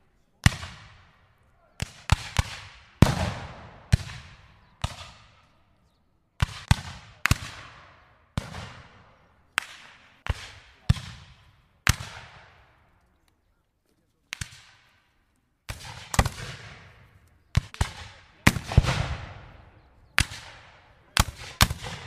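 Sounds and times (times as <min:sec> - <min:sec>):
gunshots with rolling echo: 0:00.4 - 0:05.4, 0:06.4 - 0:12.8, 0:15.7 - 0:22.0.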